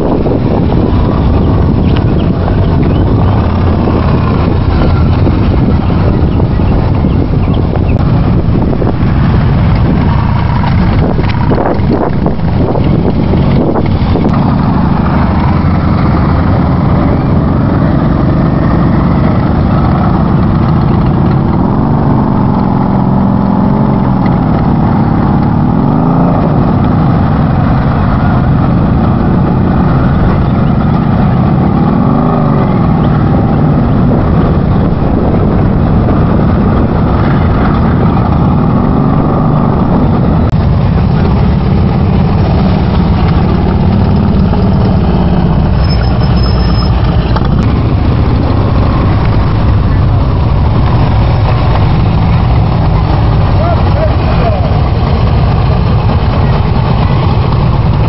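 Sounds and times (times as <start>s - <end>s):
motorcycle engine revs: 0.0s - 58.0s
motorcycle engines rumbling: 0.0s - 58.0s.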